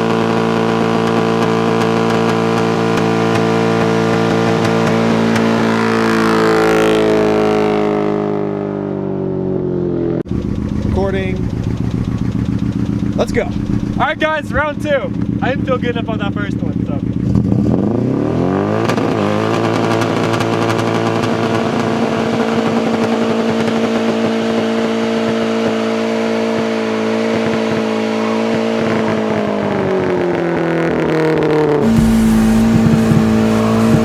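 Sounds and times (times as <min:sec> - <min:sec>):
car engine revving hard: 0:00.0 - 0:08.3, 0:10.3 - 0:14.8, 0:17.2 - 0:34.0.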